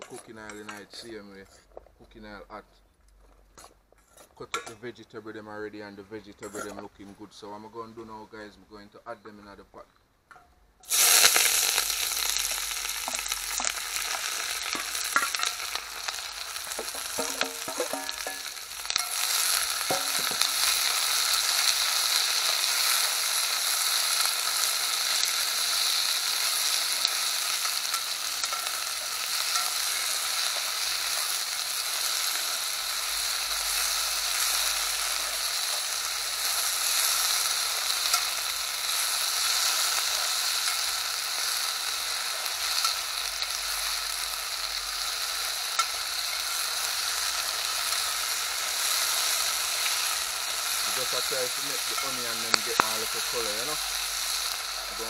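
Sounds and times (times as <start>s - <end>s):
vegetables sizzling in hot oil: 10.8s - 55.0s.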